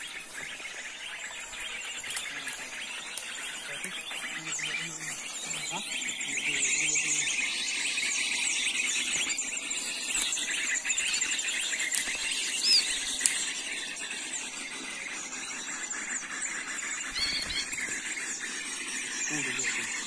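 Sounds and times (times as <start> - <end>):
small birds twittering and chirping: 0.0 - 20.0.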